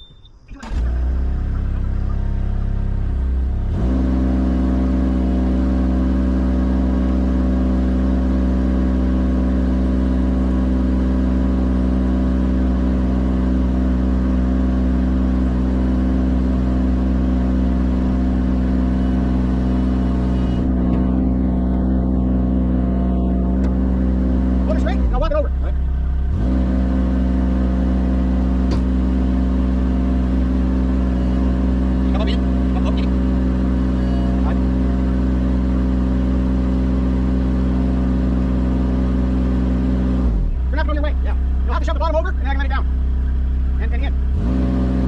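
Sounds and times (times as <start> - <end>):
engine droning: 0.0 - 45.0.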